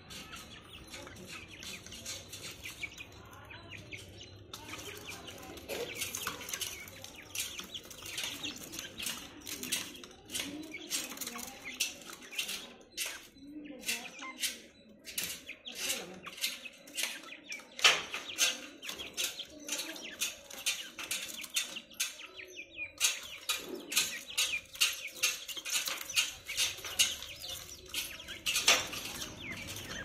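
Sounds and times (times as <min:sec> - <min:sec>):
faint high bird chirps: 0:00.0 - 0:30.0.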